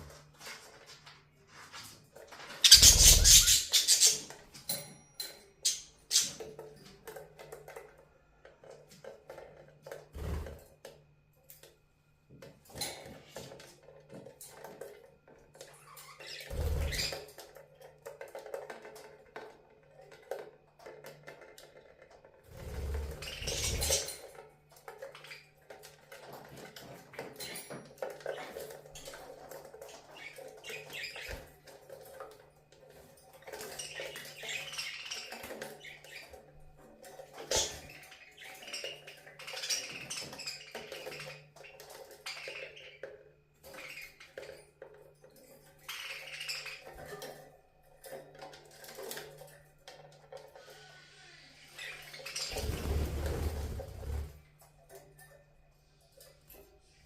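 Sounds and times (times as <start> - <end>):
cage items clattering and clinking: 0.0 - 51.0.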